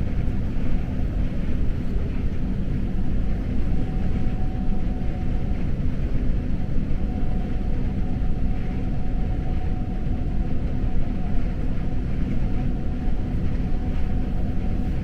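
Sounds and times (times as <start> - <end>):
faint steady hum: 0.0 - 15.0
train rumbling on track: 0.0 - 15.0.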